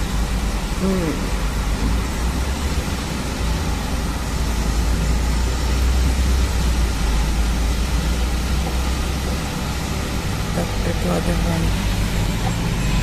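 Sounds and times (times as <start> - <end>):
vehicle and engine rumble: 0.0 - 13.0.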